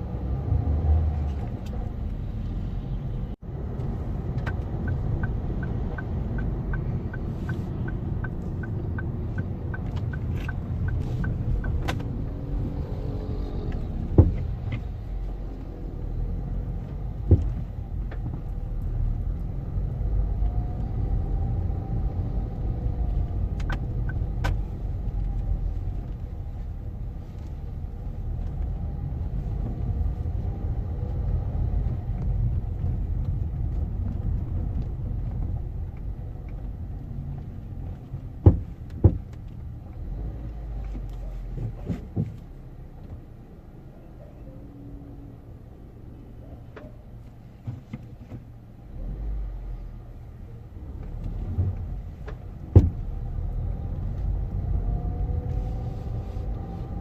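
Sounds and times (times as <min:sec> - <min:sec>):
car rumbling on the move: 0:00.0 - 0:57.0.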